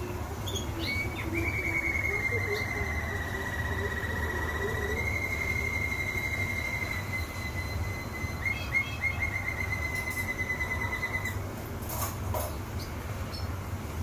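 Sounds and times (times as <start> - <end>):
canary singing high trill: 0.0 - 11.5
steady low hum: 0.0 - 14.0.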